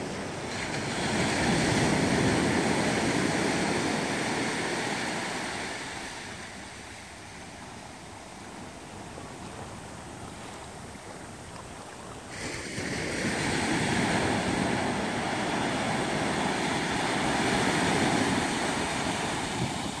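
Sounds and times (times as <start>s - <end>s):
surf washing over rocky shore: 0.0s - 20.0s
waves breaking close by: 0.0s - 20.0s.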